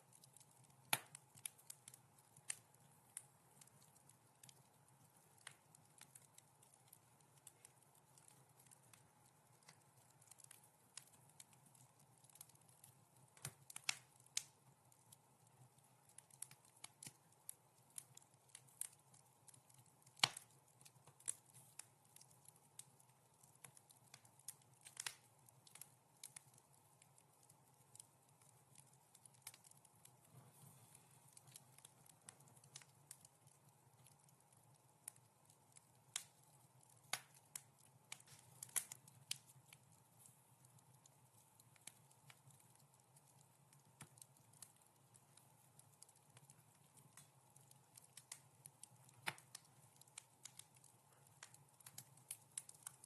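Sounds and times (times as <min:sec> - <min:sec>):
faint steady background noise: 0:00.0 - 0:53.0
wood fire crackling: 0:00.0 - 0:53.0.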